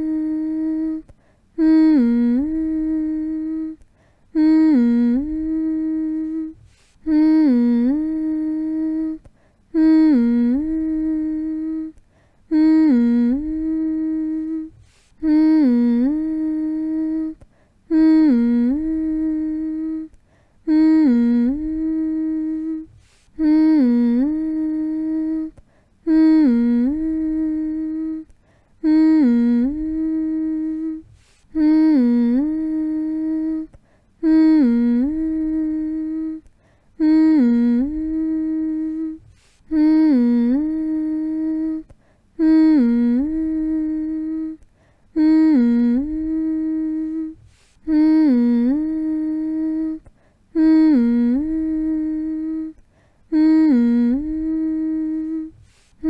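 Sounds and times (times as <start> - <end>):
person humming: 0.0 - 56.0.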